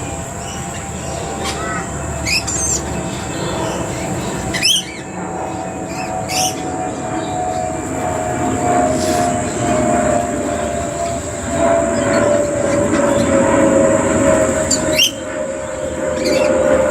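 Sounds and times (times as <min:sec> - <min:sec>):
birds chirping: 0:00.0 - 0:16.9
steady mid-pitched drone: 0:00.0 - 0:16.9.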